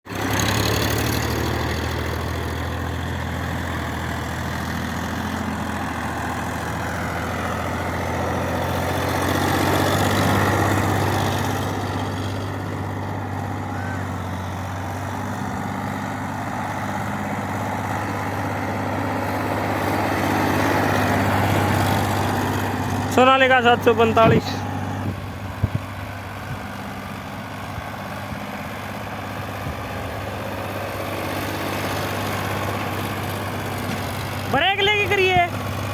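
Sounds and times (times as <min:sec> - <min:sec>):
tractor diesel engine drone: 0:00.1 - 0:35.9.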